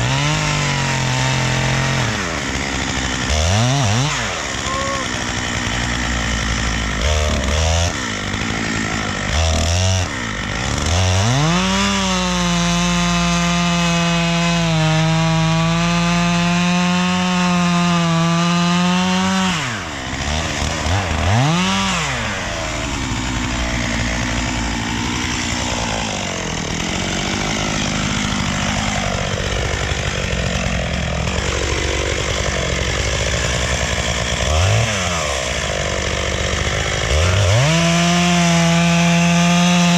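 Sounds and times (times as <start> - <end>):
chainsaw cutting into tree trunk: 0.0 - 39.9.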